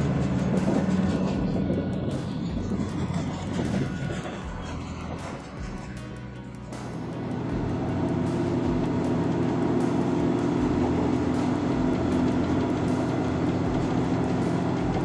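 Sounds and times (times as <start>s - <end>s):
train running hum and rumble: 0.0s - 15.0s.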